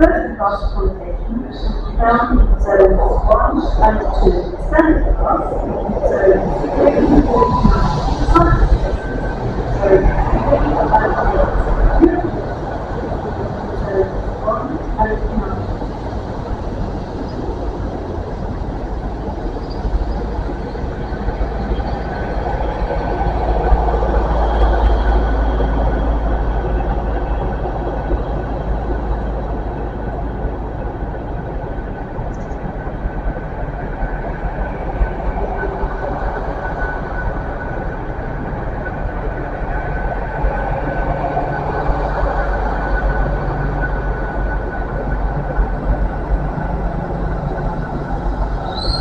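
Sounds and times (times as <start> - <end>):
faint whine: 0.0 - 49.0
passenger train rumble: 0.0 - 49.0.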